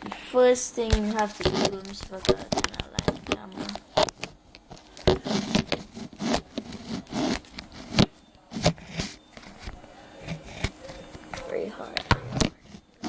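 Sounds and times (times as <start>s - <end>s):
camera scraping on hard surface: 0.8s - 13.0s.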